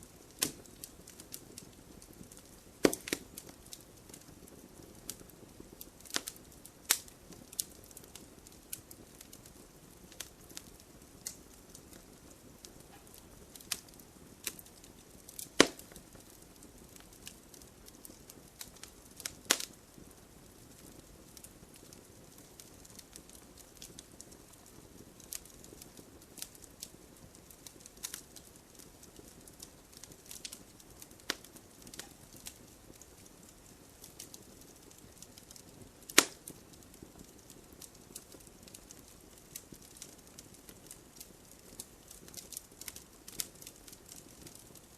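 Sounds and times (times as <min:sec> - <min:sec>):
wood fire crackling: 0:00.0 - 0:44.9
sharp fire pops: 0:00.2 - 0:25.8, 0:26.4 - 0:44.7.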